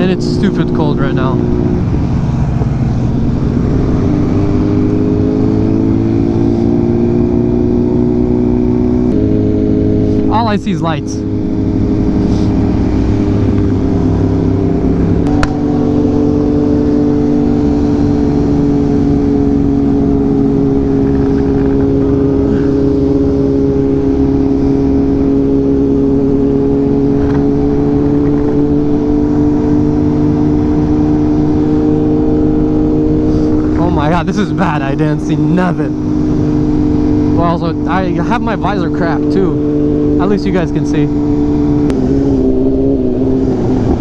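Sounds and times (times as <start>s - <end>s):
motorcycle engine cruising: 0.0s - 44.0s.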